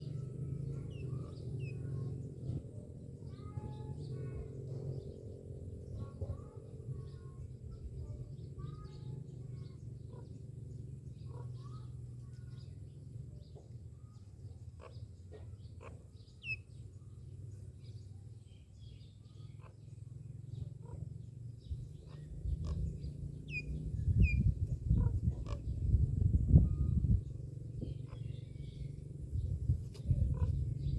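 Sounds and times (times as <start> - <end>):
myna birds calling: 0.0 - 30.9
steady low rumble: 0.0 - 30.9.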